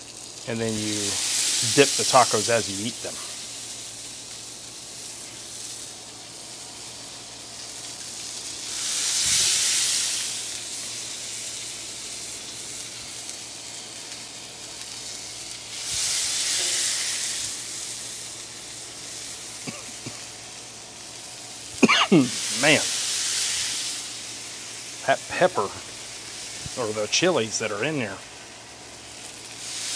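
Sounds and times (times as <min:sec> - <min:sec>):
tacos sizzling on a griddle: 0:00.0 - 0:29.9.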